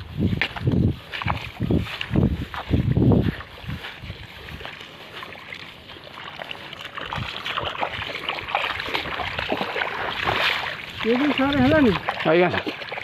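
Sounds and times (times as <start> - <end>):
footsteps on muddy path: 0.0 - 13.0
water splashing: 0.0 - 13.0.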